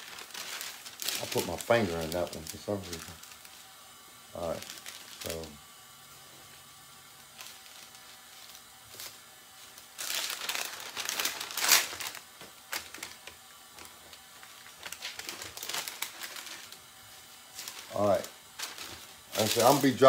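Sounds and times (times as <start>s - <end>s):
sheet rustling and crinkling: 0.0s - 3.7s, 4.4s - 5.6s, 7.2s - 20.0s.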